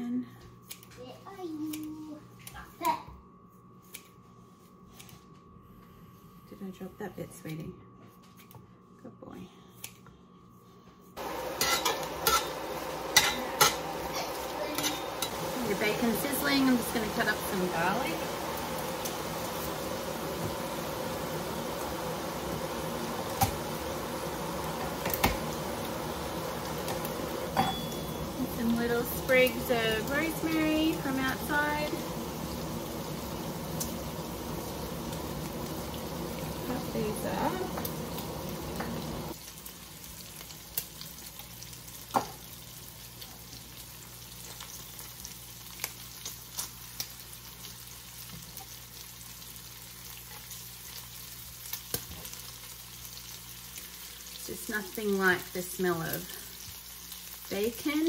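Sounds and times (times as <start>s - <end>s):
bacon sizzling in a skillet: 11.2s - 58.0s.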